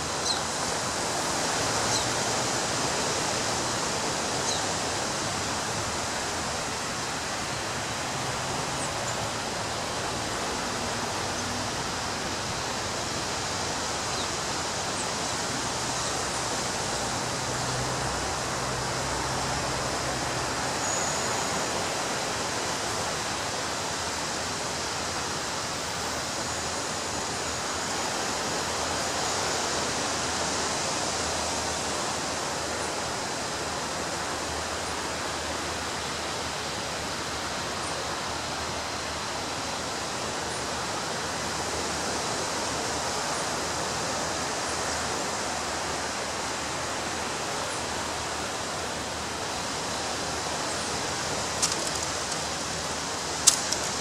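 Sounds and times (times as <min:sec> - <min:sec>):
ocean surf washing on beach: 0:00.0 - 0:54.0.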